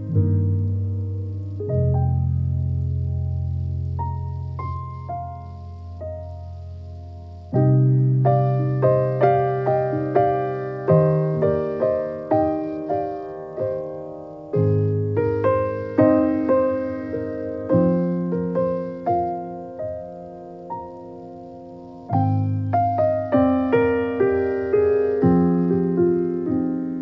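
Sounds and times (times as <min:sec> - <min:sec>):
gentle piano music: 0:00.0 - 0:27.0.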